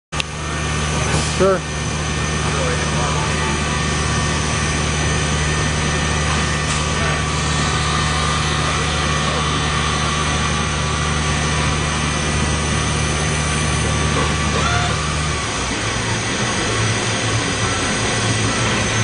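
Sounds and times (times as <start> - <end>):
industrial machinery humming: 0.1 - 19.0.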